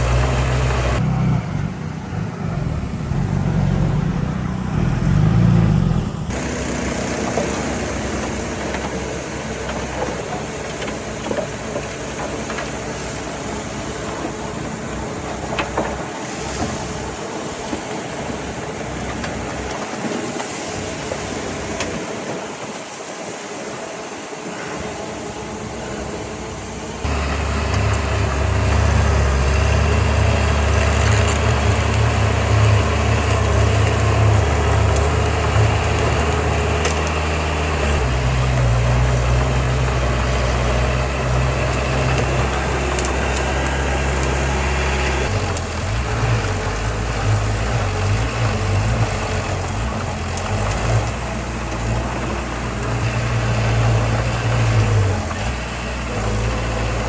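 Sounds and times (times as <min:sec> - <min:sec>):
construction machine diesel engine: 0:00.0 - 0:57.0.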